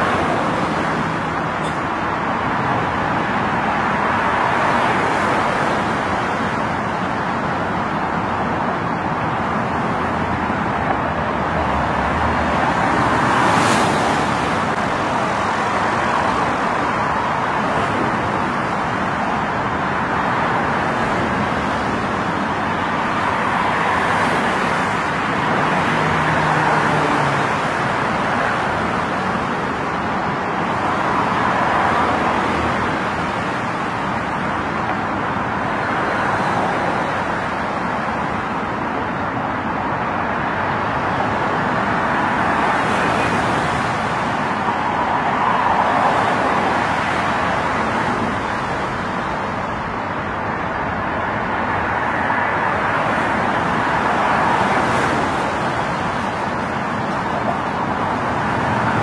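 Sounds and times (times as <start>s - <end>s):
road traffic hiss: 0.0s - 59.0s.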